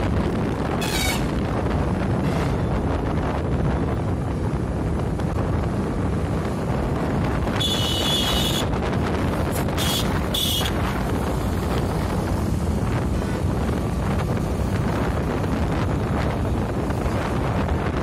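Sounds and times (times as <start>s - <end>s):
road rumble: 0.0s - 18.0s
wind buffeting microphone: 0.0s - 18.0s.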